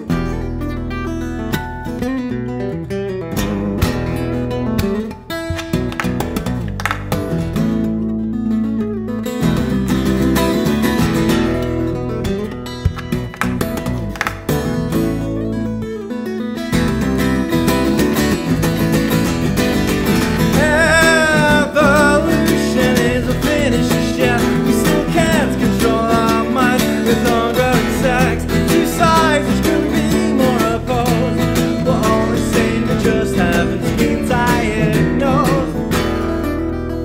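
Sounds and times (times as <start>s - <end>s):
acoustic guitar fingerstyle blues: 0.0s - 37.0s.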